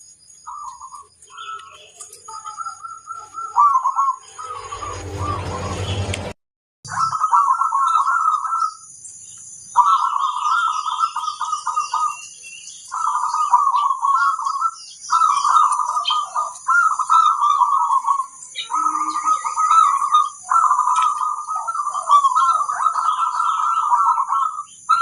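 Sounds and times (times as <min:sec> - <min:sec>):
dove cooing: 0:00.5 - 0:06.1, 0:06.9 - 0:08.8, 0:09.8 - 0:12.2, 0:12.9 - 0:25.0.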